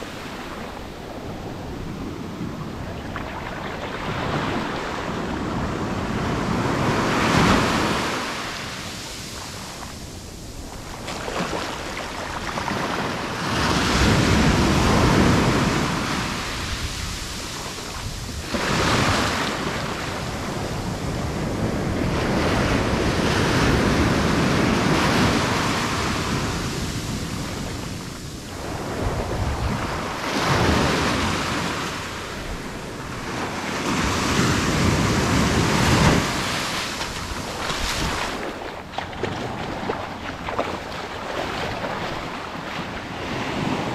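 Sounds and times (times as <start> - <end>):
small waves breaking on sand: 0.0 - 43.9.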